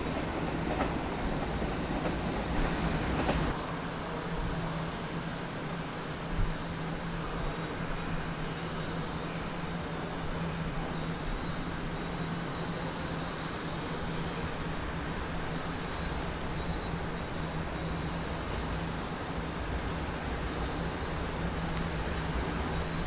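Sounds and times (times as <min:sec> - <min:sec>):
distant train rumble: 0:00.0 - 0:05.2, 0:08.6 - 0:23.0
steady hum and hiss: 0:00.0 - 0:23.0.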